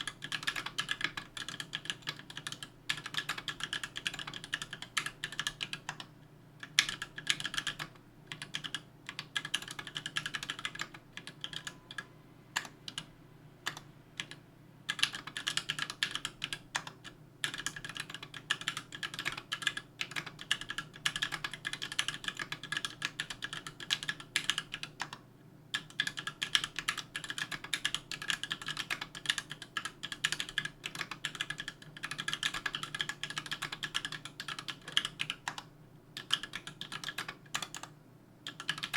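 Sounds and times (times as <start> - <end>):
keyboard typing clacks: 0.0 - 13.0, 14.9 - 25.2, 25.8 - 35.6, 36.2 - 37.9, 38.5 - 38.9.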